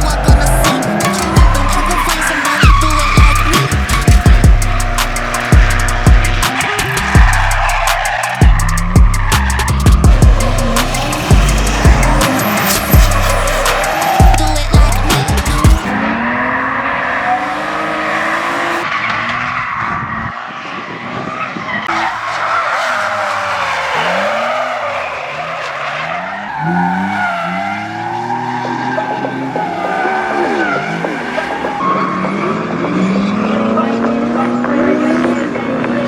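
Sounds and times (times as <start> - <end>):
car engines revving: 0.0 - 36.0
tyres skidding and squealing: 0.0 - 36.0.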